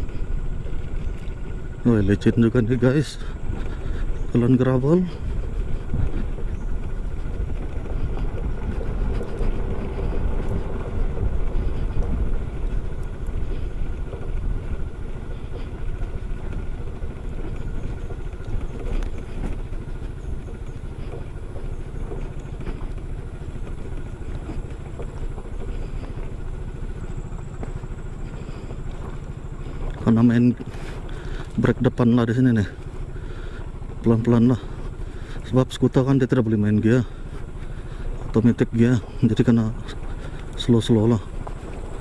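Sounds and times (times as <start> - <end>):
scooter engine rumble: 0.0 - 42.0
tyres on gravel: 0.0 - 42.0.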